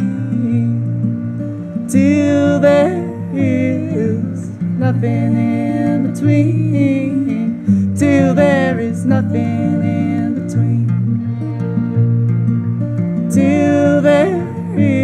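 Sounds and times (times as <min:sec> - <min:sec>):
acoustic guitar strumming: 0:00.0 - 0:15.0
fiddle melody: 0:00.0 - 0:15.0.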